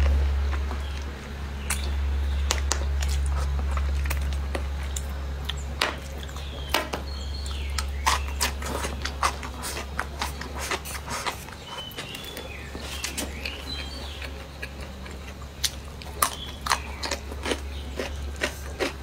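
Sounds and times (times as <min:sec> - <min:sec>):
chewing with mouth clicks: 0:00.0 - 0:19.0
low hum: 0:00.0 - 0:19.0.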